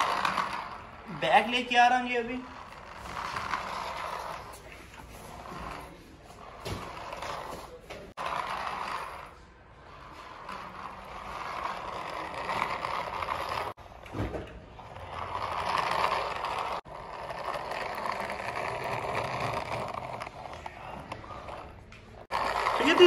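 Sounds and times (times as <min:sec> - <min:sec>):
toy car motor whirring: 0:00.0 - 0:13.8, 0:14.8 - 0:23.0.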